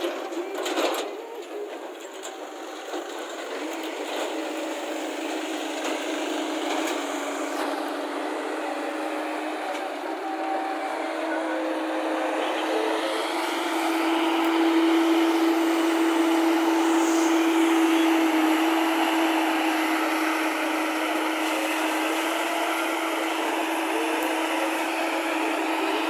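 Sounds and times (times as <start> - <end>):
excavator diesel engine and hydraulics: 0.0 - 26.0.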